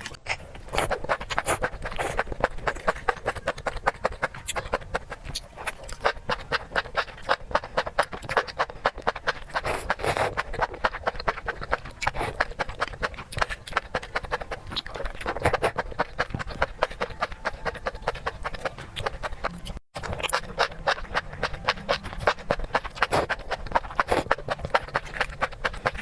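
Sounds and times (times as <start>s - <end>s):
food crunching while chewed: 0.0s - 26.0s.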